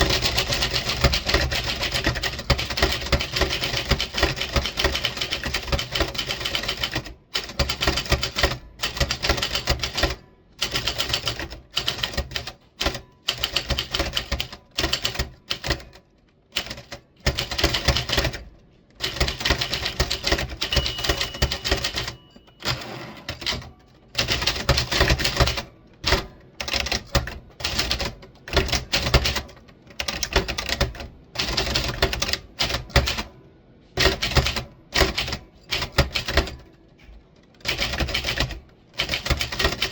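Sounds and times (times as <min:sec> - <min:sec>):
typewriter keys clacking: 0:00.0 - 0:16.0, 0:16.6 - 0:33.2, 0:34.0 - 0:39.9.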